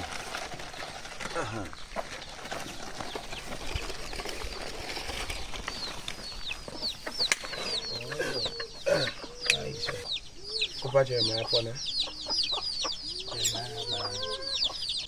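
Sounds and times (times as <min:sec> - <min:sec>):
chickens clucking: 0:00.4 - 0:15.0
chicks peeping: 0:00.4 - 0:15.0.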